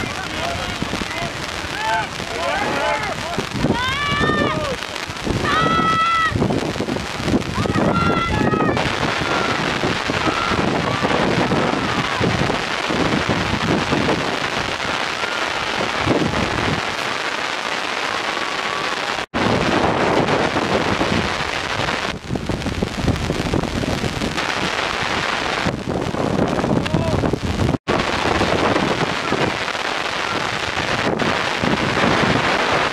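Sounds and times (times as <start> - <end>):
wind buffeting microphone: 0.0 - 17.3, 18.5 - 32.9.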